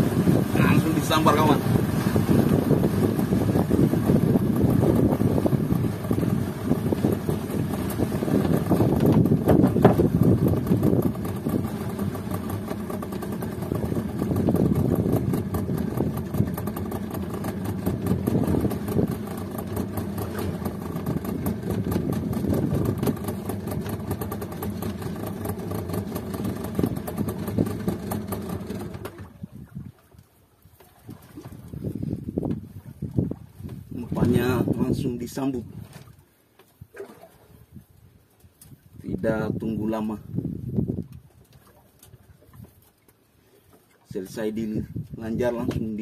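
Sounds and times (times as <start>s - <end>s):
outboard motor running: 0.0s - 37.8s
water rushing along hull: 0.0s - 46.0s.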